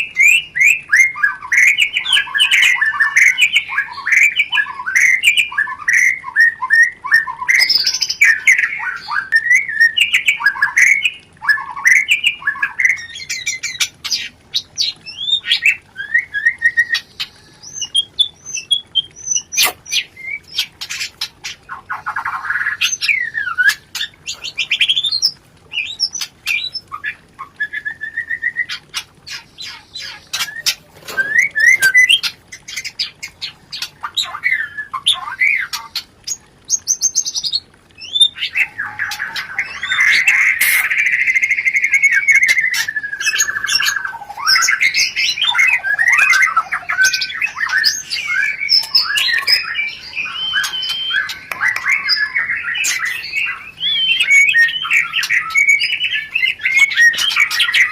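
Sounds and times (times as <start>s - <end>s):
bird chattering and whistling: 0.0s - 36.0s, 37.2s - 57.9s.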